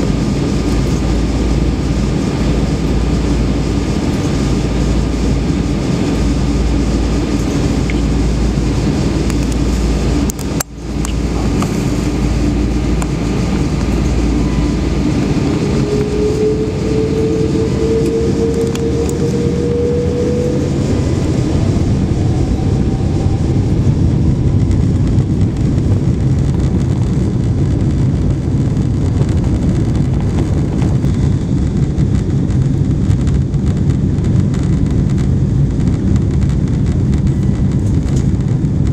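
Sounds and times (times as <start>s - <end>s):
faint engine whine rising: 0.0s - 38.9s
jet engines rumbling: 0.0s - 38.9s.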